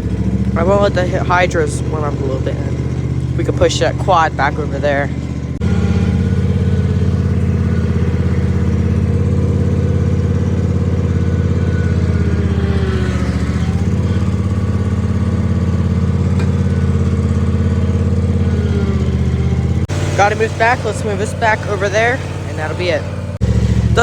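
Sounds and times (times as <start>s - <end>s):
mower engine running: 0.0s - 24.0s.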